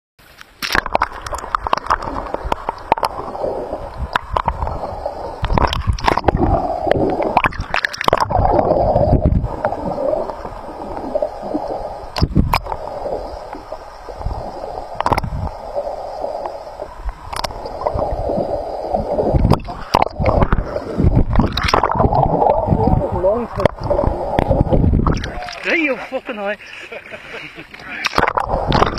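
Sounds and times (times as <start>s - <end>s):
underwater gurgling water: 0.5s - 26.0s, 27.7s - 28.9s
bubbles: 0.6s - 25.8s, 28.1s - 28.9s.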